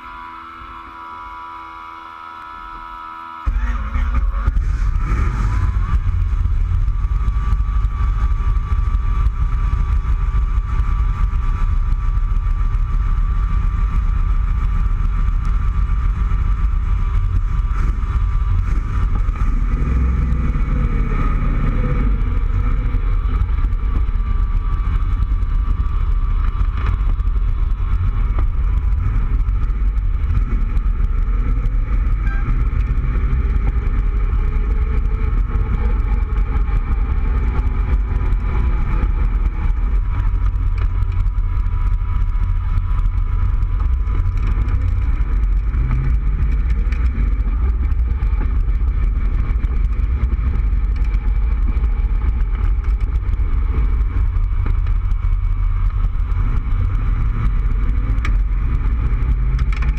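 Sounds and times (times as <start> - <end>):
car engine low rumble: 0.0 - 59.9.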